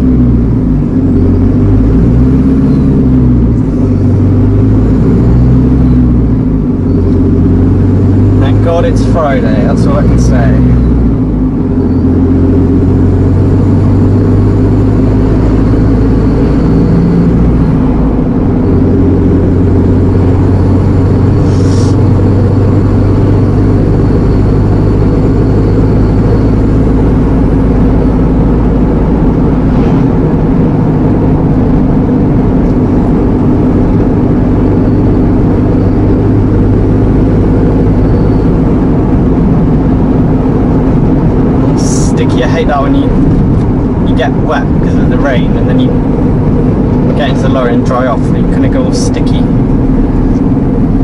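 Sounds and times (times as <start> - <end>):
lorry diesel engine drone: 0.0 - 51.0.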